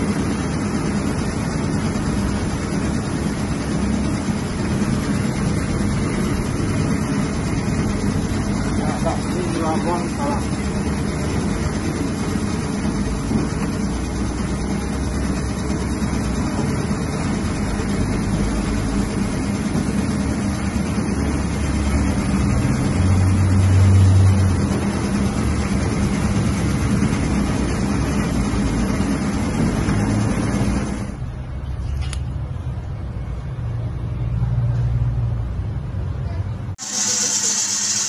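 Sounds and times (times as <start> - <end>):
meat dicing machine motor hum: 0.0 - 31.2.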